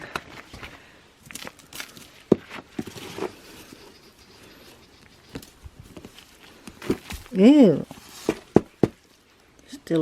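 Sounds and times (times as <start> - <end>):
ginger rustling by hand: 0.3 - 10.0.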